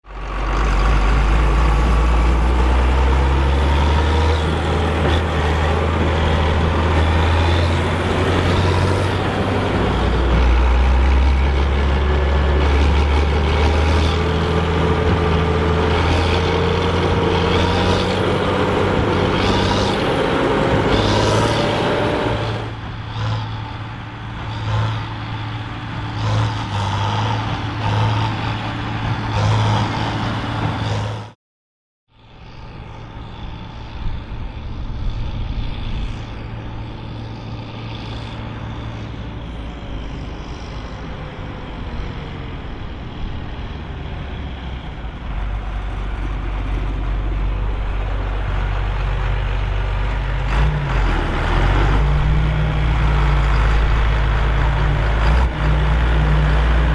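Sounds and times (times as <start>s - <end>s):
tractor diesel engine under load: 0.0s - 31.4s, 32.1s - 56.9s.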